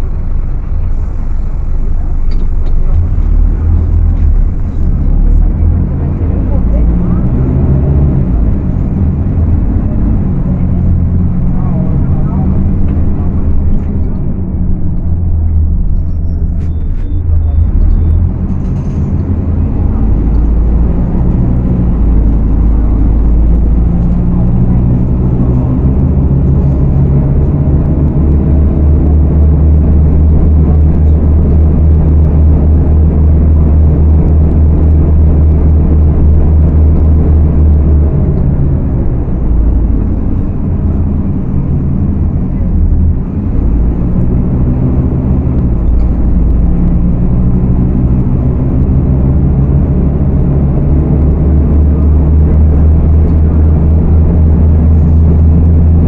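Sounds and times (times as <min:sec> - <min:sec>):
bus diesel engine revving: 0:00.0 - 0:56.0.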